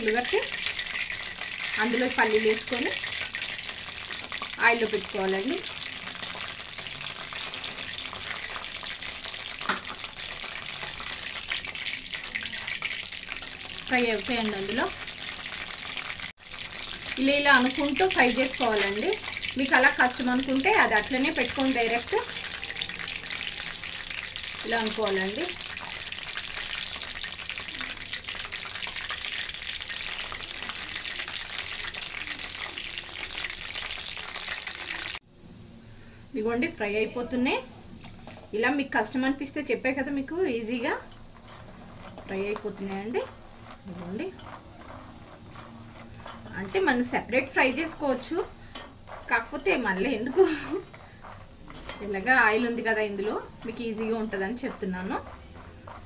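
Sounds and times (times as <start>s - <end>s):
peanuts sizzling in hot oil: 0.0s - 56.0s.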